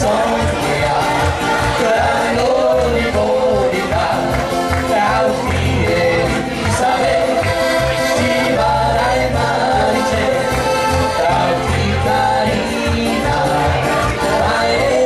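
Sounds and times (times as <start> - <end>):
live band music: 0.0 - 15.0
person singing: 0.0 - 15.0
steady bass line: 0.0 - 15.0.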